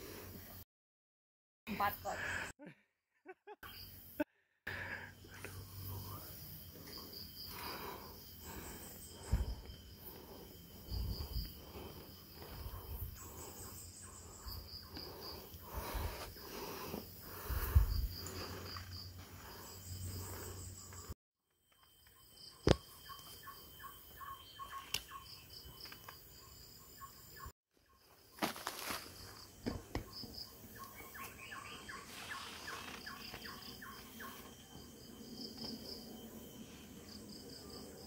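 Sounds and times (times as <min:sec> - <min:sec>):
insects chirping in pulsed bursts: 0:03.6 - 0:21.2, 0:21.8 - 0:38.0.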